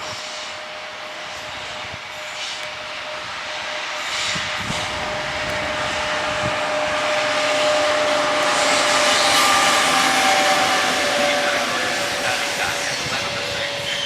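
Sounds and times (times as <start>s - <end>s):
electric train passing: 0.0s - 14.0s
high whine: 0.0s - 14.0s.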